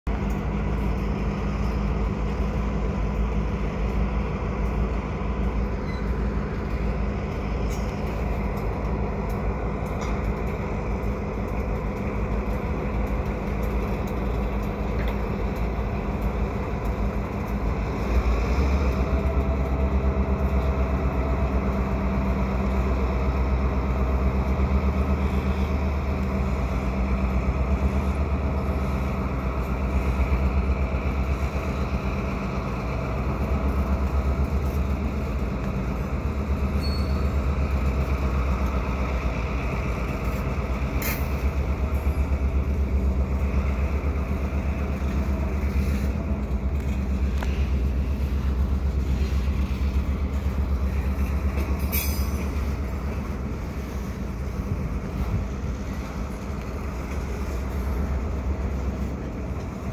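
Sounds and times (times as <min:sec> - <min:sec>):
diesel locomotive engines humming: 0:00.0 - 0:59.9.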